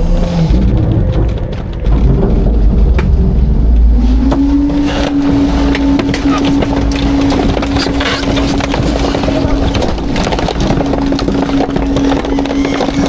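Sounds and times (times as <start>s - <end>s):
trash crackling and crunching: 0.0s - 13.0s.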